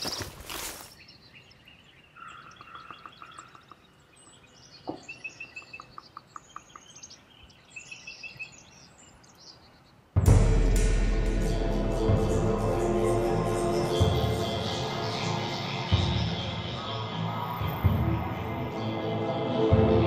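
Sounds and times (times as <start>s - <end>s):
small birds chirping: 0.0s - 10.2s, 13.5s - 19.4s.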